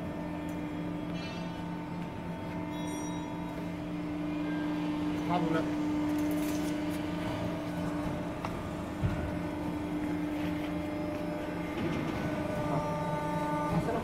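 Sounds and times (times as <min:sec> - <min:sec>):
hydraulic pump motor hum: 0:00.0 - 0:14.0.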